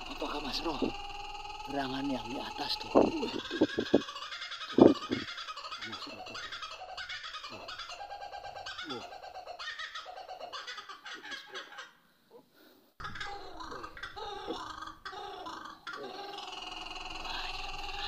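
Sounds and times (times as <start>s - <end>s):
chorus of animal chirps: 0.0s - 11.7s, 13.1s - 18.0s.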